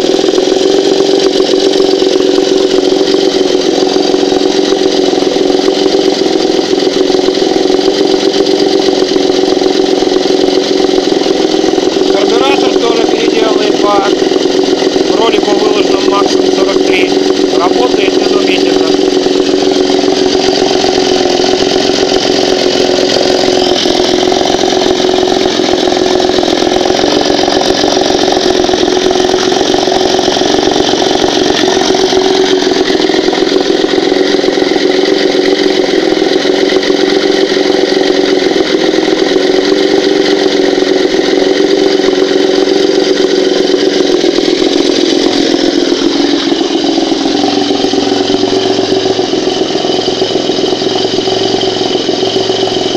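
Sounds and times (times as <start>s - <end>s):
outboard motor running: 0.0s - 52.9s.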